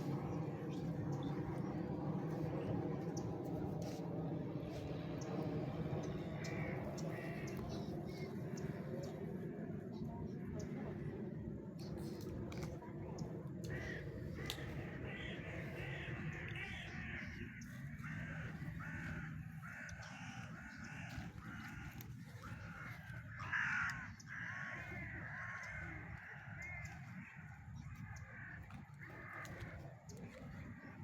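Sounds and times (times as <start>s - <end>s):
flock of birds calling: 0.0s - 11.1s, 11.8s - 31.0s
steady low rumble: 0.0s - 31.0s.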